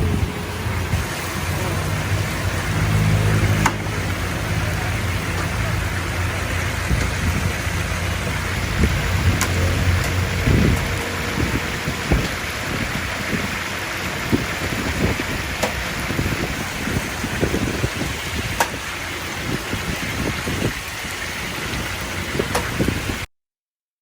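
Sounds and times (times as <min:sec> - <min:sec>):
chicken sizzling in hot oil: 0:00.0 - 0:23.3
low rumble of street traffic: 0:00.0 - 0:23.3.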